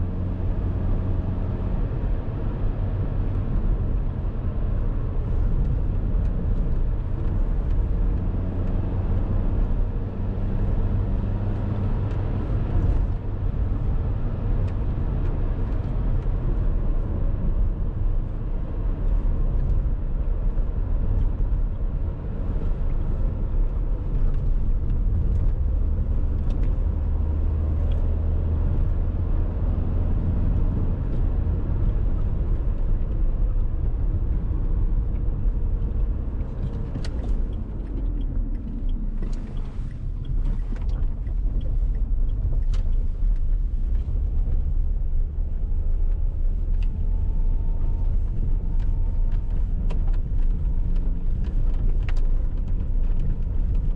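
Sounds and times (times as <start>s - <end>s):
car engine drone: 0.0s - 53.9s
road and tyre noise: 0.0s - 53.9s.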